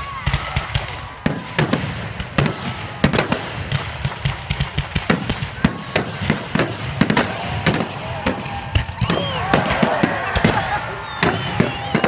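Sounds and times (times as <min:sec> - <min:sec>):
fireworks and firecrackers banging: 0:00.0 - 0:12.0.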